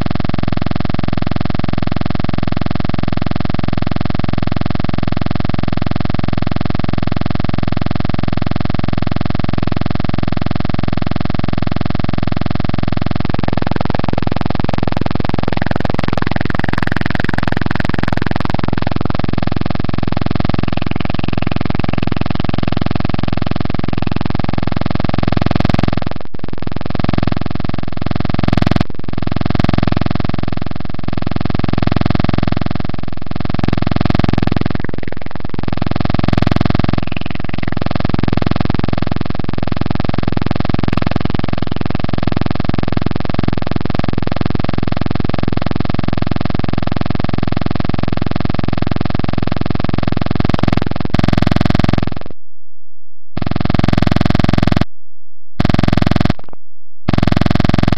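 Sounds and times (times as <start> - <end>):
loud steady buzz: 0.0 - 52.4, 53.4 - 55.0, 55.6 - 57.9.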